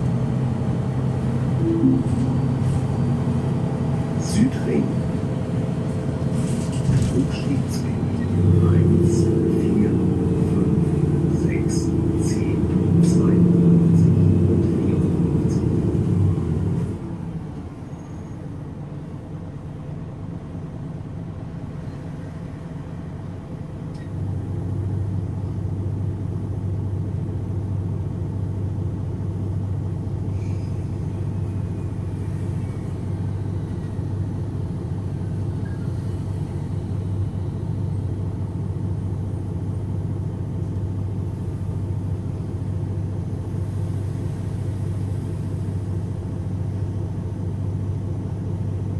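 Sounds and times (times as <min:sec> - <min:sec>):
diesel bus engine idling: 0:00.0 - 0:48.9.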